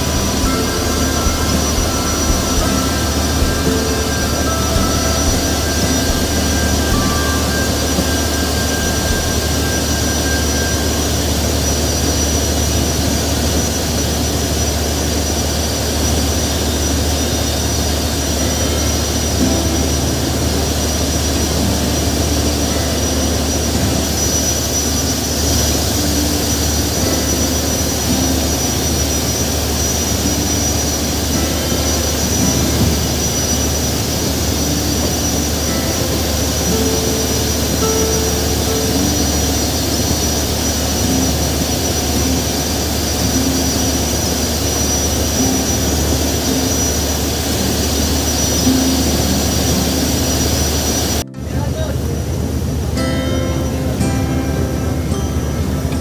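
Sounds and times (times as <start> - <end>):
boat engine droning: 0.0 - 56.0
wind and water hiss: 0.0 - 56.0.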